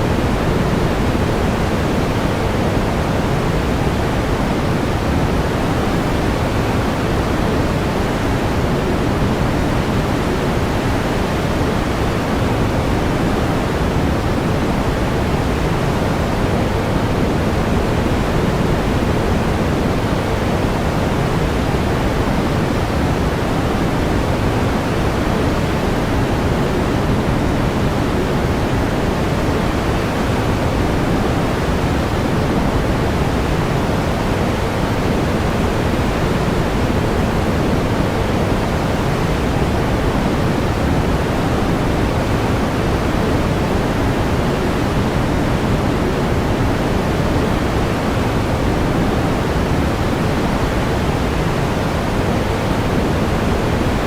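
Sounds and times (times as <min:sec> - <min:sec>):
steady pink noise: 0:00.0 - 0:54.0.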